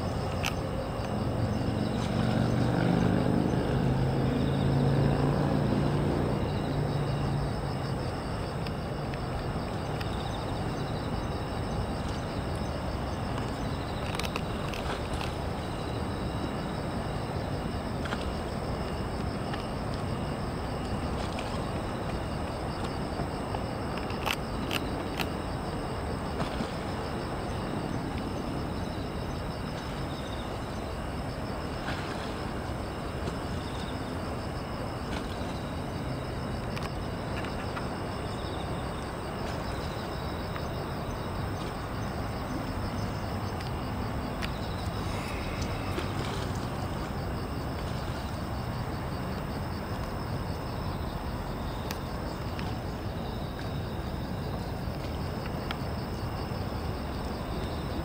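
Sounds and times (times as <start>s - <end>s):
insects chirping: 0.0s - 58.0s
low rumble of city traffic: 0.0s - 58.0s.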